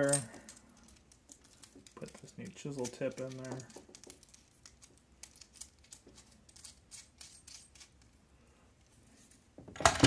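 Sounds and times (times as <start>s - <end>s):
small metal parts clicking: 0.0s - 8.2s.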